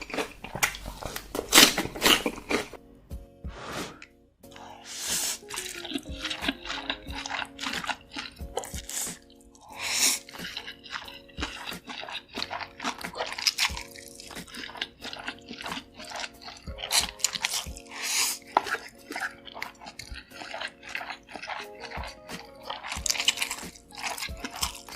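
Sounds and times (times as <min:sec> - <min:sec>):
wet chewing sounds: 0:00.0 - 0:02.8, 0:04.5 - 0:24.9
soft background music: 0:00.0 - 0:24.9
slurping: 0:03.5 - 0:24.9.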